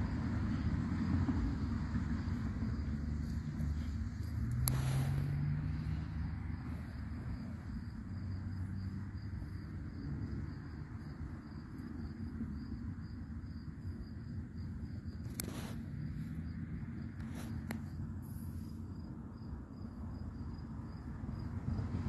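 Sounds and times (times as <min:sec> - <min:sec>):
crickets chirring: 0:00.0 - 0:22.0
steady low rumble: 0:00.0 - 0:22.0.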